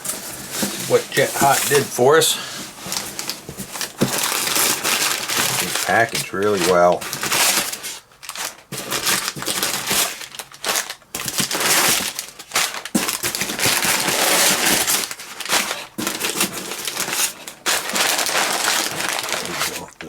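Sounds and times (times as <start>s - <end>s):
packing material crinkling: 0.0s - 20.0s.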